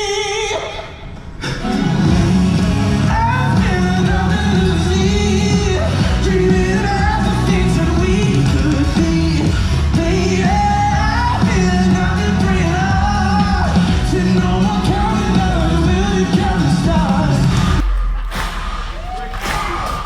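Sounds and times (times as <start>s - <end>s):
live rock band with heavy bass: 2.0s - 18.8s.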